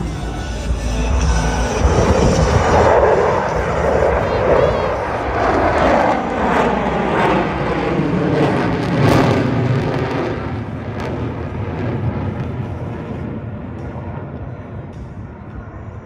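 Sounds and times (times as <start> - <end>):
jet aircraft roaring overhead: 0.0 - 16.0.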